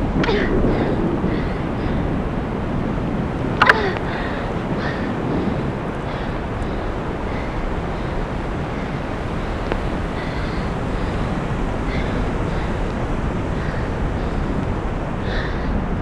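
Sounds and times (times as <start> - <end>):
gusty wind on microphone: 0.0 - 16.0.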